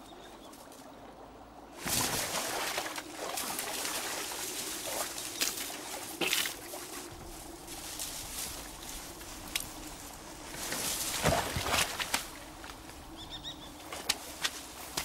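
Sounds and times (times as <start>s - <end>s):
grass rustling and swishing: 1.8s - 15.0s.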